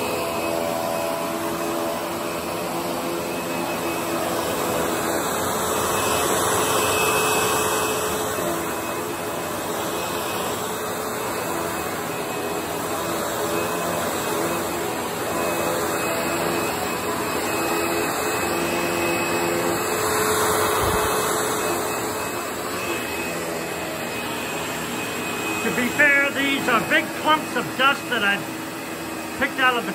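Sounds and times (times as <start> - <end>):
upright vacuum running on tile: 0.0 - 29.9.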